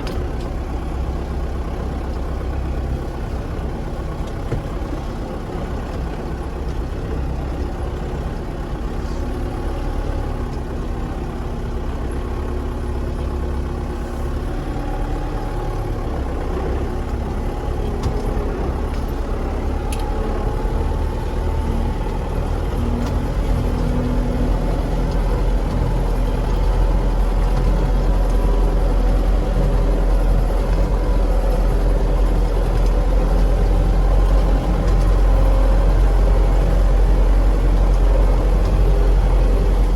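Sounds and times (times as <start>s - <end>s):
farm vehicle engine running: 0.0s - 39.9s.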